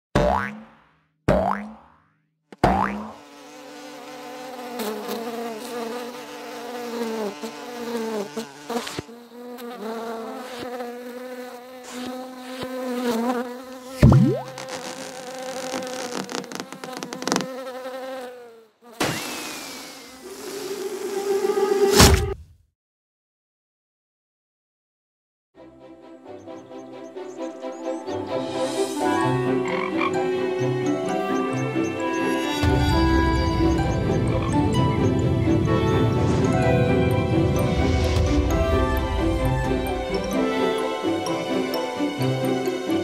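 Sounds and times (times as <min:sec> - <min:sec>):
cartoon fly buzzing: 0:01.4 - 0:01.7, 0:02.6 - 0:22.3, 0:28.3 - 0:43.0.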